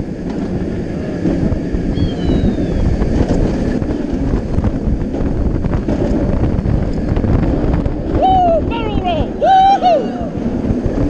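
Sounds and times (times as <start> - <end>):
roller coaster train rumble: 0.0 - 11.0
wind rushing over camera: 0.0 - 11.0.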